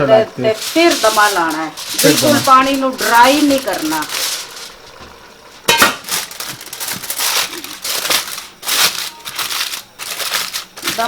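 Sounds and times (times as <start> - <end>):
kitchen foil crinkling: 0.4 - 11.0.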